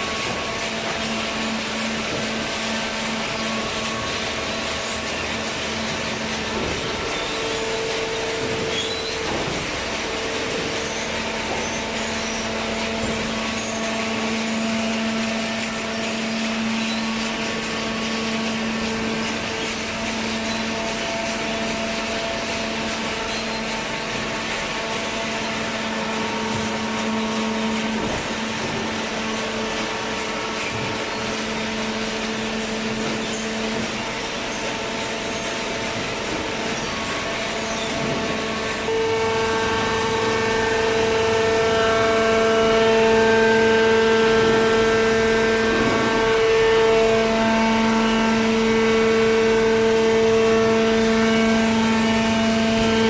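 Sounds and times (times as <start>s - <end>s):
constant mechanical whine: 0.0s - 53.0s
hydraulic baler motor humming: 0.0s - 53.0s.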